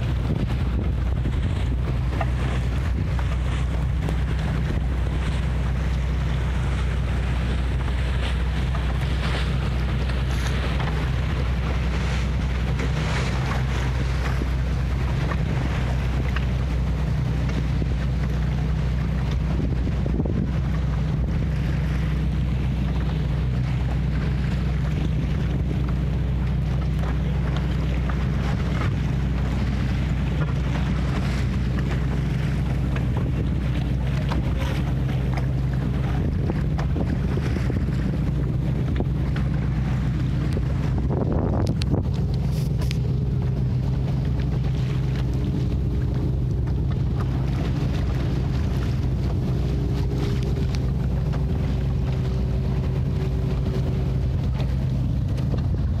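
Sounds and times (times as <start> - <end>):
low engine hum: 0.0 - 56.0
water washing along hull: 0.0 - 56.0
wind buffeting microphone: 0.0 - 56.0.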